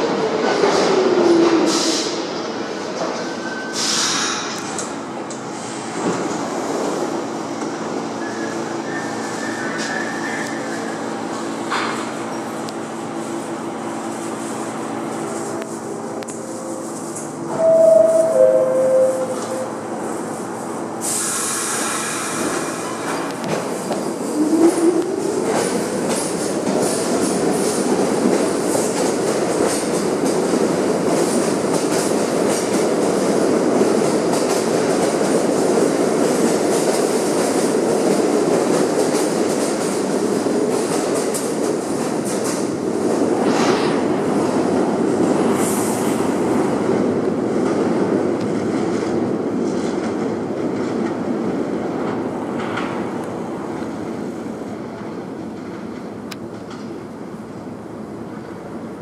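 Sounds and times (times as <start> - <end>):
train wheels rumbling and clacking: 0.0 - 18.1, 19.3 - 59.0.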